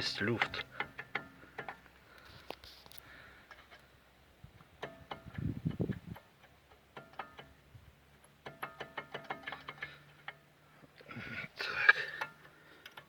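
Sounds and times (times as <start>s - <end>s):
brake pads clicking against metal: 0.0s - 13.0s.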